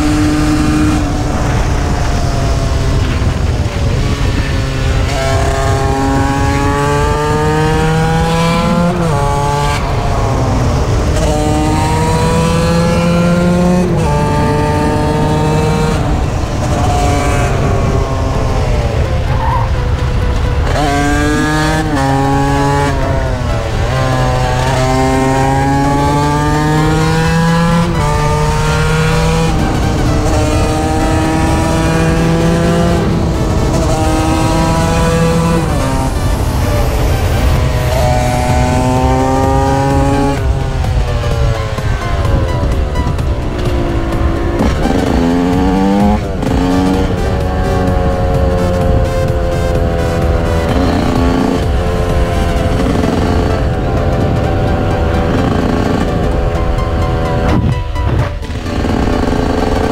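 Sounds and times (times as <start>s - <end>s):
motorcycle engine at full throttle: 0.0s - 59.9s
wind rumble: 0.0s - 59.9s.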